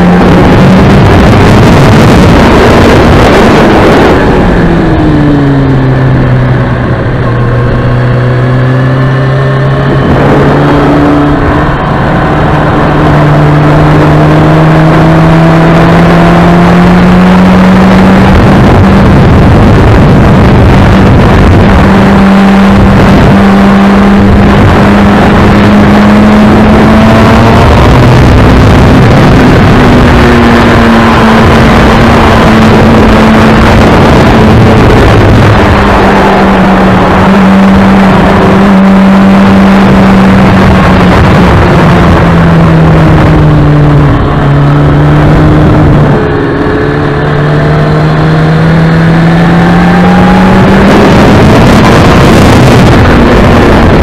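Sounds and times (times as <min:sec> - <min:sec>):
motorcycle engine running under load: 0:00.0 - 0:54.0
wind noise on microphone: 0:00.0 - 0:54.0.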